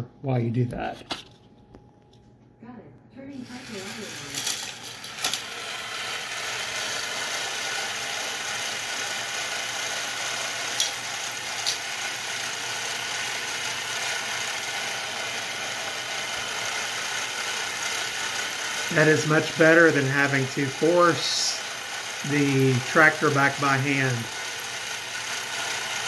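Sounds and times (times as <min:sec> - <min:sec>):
toy electric motor whirring: 0:03.3 - 0:26.0.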